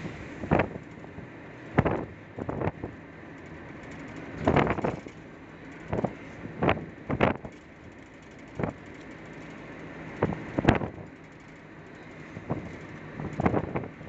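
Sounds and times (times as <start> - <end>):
road and engine noise in car: 0.0 - 14.0.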